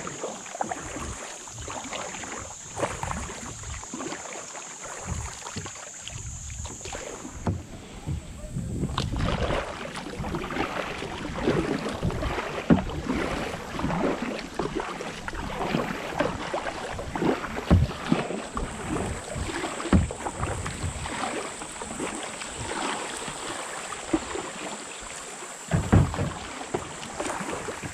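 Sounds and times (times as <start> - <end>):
water splashing around kayak: 0.0 - 27.9.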